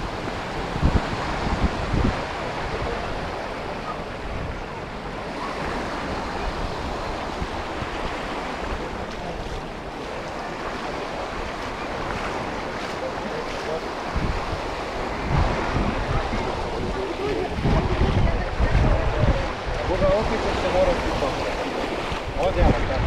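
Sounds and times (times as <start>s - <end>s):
sea waves on sandy beach: 0.0s - 23.0s
wind buffeting microphone: 0.0s - 23.0s.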